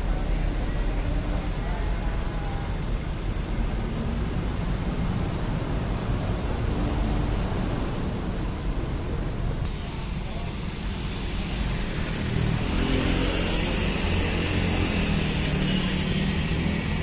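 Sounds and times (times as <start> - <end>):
bus engine rumbling past: 0.0 - 17.0.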